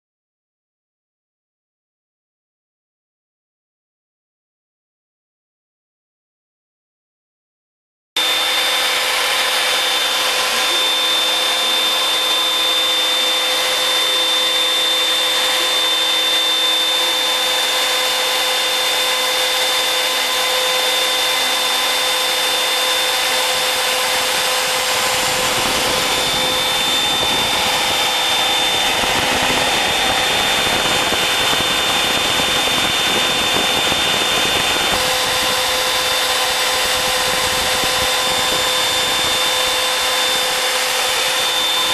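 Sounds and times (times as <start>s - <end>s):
bit milling wood: 8.2s - 41.9s
router spindle whining: 8.2s - 41.9s.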